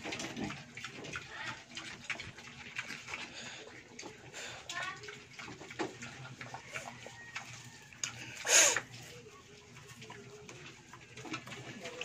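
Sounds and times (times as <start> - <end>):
animals chewing and snuffling: 0.0 - 12.0.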